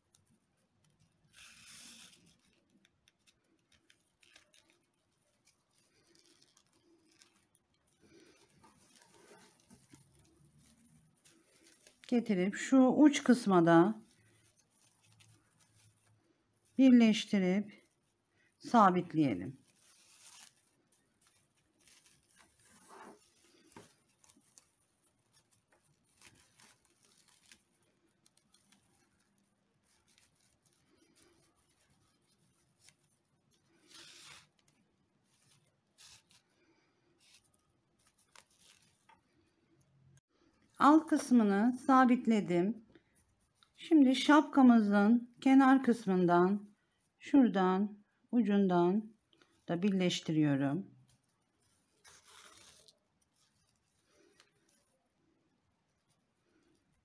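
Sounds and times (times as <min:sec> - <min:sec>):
paper yarn rustling and crackling: 0:00.0 - 0:57.0.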